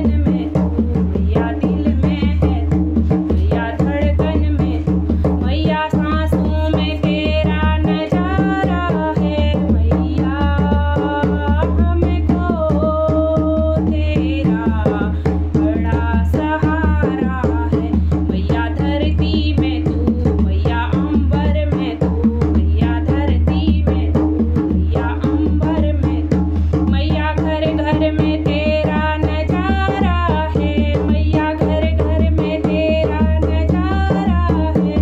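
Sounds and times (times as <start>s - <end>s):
steady drum beat: 0.0s - 35.0s
woman singing devotional song: 0.0s - 35.0s.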